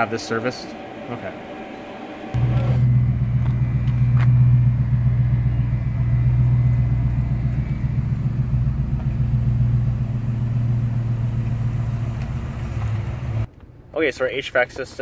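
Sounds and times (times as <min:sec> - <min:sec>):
pickup truck engine droning: 0:00.0 - 0:13.5.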